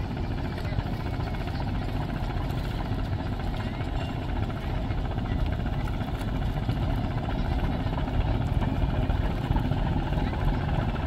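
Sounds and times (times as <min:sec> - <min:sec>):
boat diesel engines rumbling: 0:00.0 - 0:11.0.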